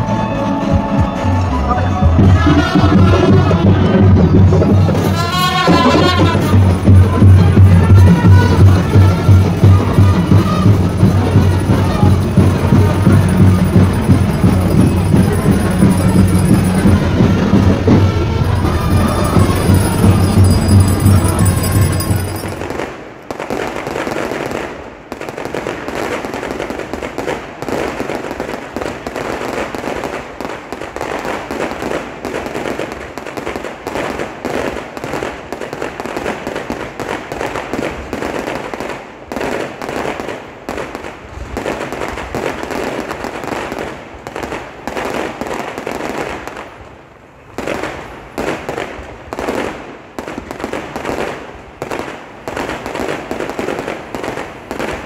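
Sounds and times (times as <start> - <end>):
fireworks bangs and crackles: 2.2 - 55.0.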